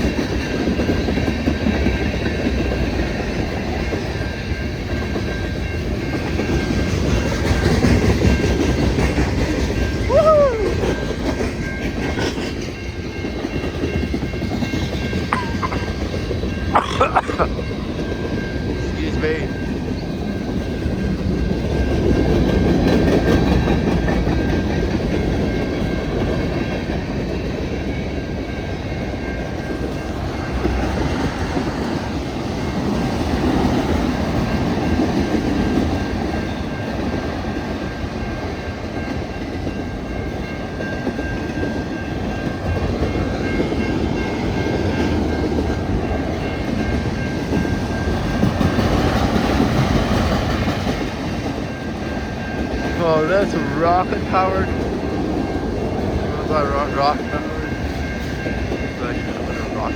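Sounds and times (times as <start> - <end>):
train wheels clacking on rail joints: 0.0 - 16.5, 19.6 - 59.9
heavy train rumble: 0.0 - 59.9.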